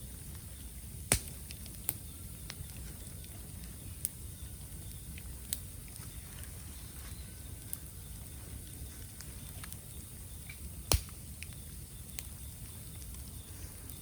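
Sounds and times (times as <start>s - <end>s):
bamboo crackling in fire: 0.0s - 14.0s
low fire rumble: 0.0s - 14.0s.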